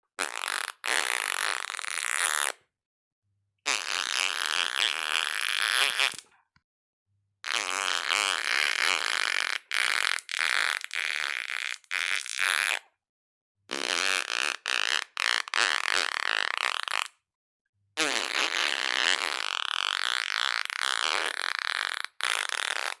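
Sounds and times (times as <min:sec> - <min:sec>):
fart sounds: 0:00.2 - 0:02.6, 0:03.7 - 0:06.3, 0:07.4 - 0:12.8, 0:13.7 - 0:17.2, 0:18.0 - 0:23.0.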